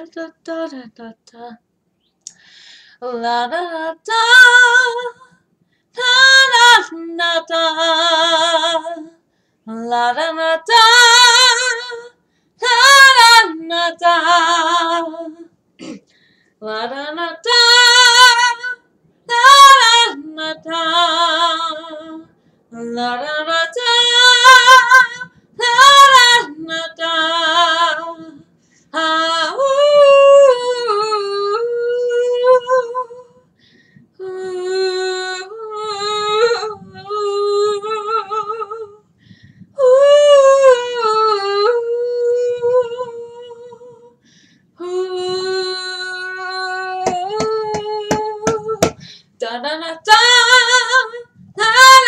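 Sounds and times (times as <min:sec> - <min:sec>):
woman singing unaccompanied: 0:00.0 - 0:01.6, 0:03.0 - 0:05.4, 0:06.0 - 0:15.5, 0:16.6 - 0:33.4, 0:34.2 - 0:39.0, 0:39.7 - 0:44.2, 0:44.8 - 0:52.0.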